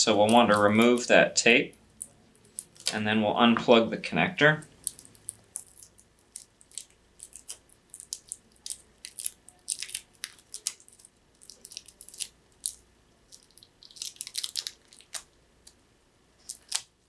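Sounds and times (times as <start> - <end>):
tape crackling as peeled: 0.1 - 3.0, 4.7 - 15.8, 16.4 - 17.0.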